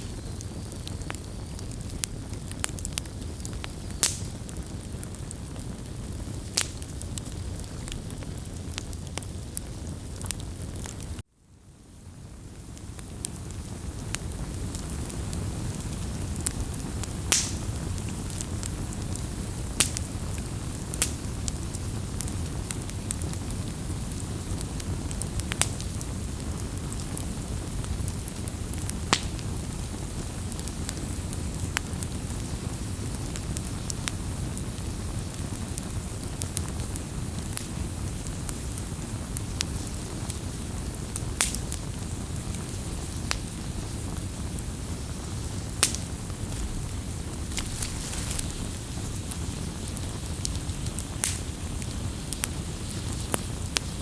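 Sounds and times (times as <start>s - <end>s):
campfire crackling pops: 0.0s - 11.2s, 12.3s - 54.0s
campfire flames rushing: 0.0s - 11.2s, 11.9s - 54.0s.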